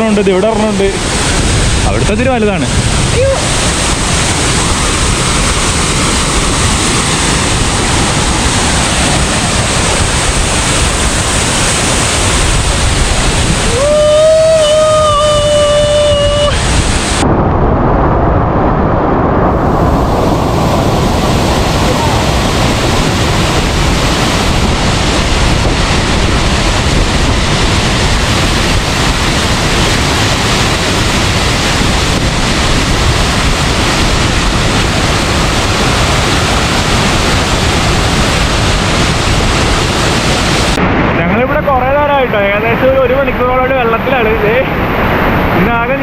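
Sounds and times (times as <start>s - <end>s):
waterfall rushing: 0.0s - 18.1s, 18.8s - 46.0s.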